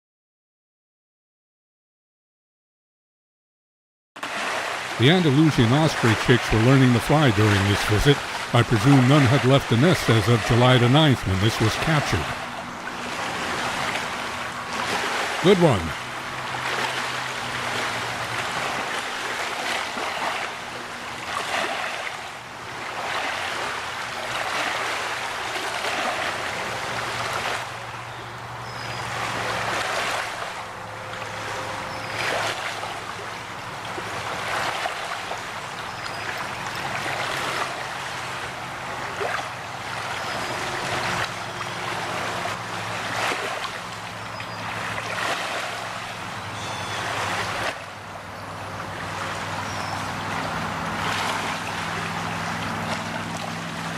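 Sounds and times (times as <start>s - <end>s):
river water washing against shore: 4.2s - 53.9s
faint low engine hum: 4.9s - 53.9s.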